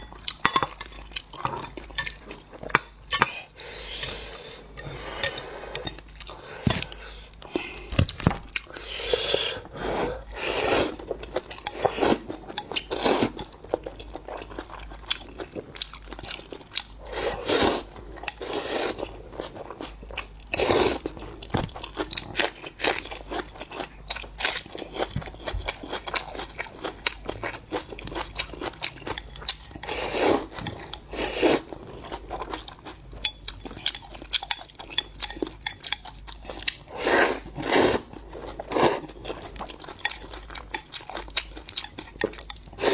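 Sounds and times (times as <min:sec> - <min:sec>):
chewing and crunching seafood: 0:00.0 - 0:03.4, 0:04.1 - 0:42.9.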